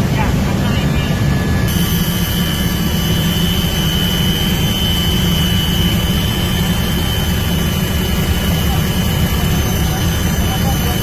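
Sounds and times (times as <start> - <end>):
boat engine drone: 0.0 - 11.0
high engine whine: 0.0 - 11.0.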